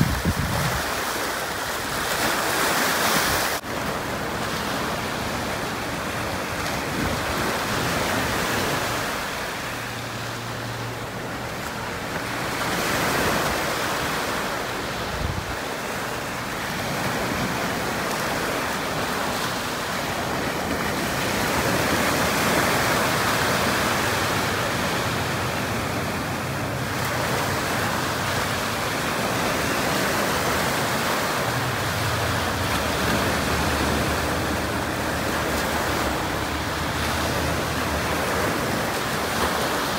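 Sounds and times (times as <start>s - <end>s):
sea surf washing against breakwater: 0.0s - 39.9s
outboard motor hum: 3.6s - 39.9s.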